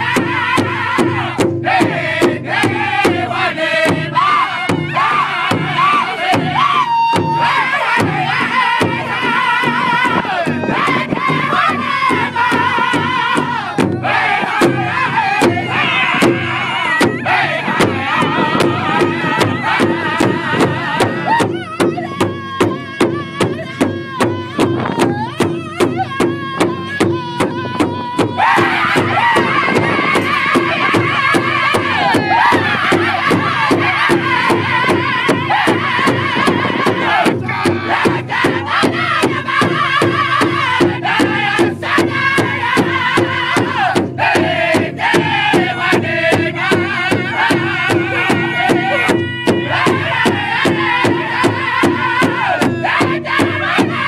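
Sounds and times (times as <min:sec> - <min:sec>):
group singing high-pitched in unison: 0:00.0 - 0:54.0
large drum beating: 0:00.0 - 0:54.0.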